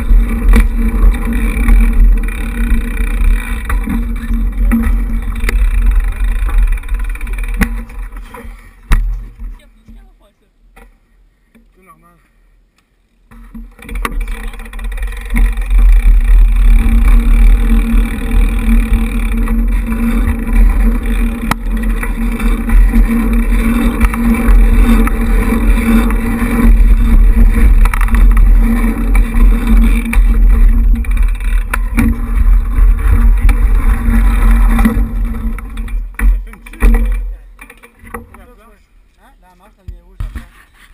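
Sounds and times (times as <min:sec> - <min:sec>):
tyres rumbling on asphalt: 0:00.0 - 0:09.6, 0:13.3 - 0:39.1
bike knocking over bumps: 0:00.0 - 0:10.1, 0:13.3 - 0:38.7.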